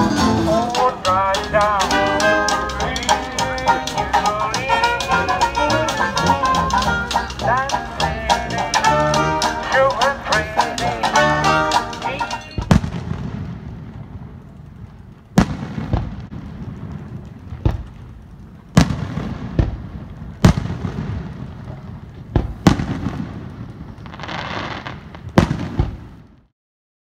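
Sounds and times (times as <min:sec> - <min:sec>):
firework crackling: 0:00.0 - 0:26.5
firework shells bursting: 0:00.1 - 0:26.3.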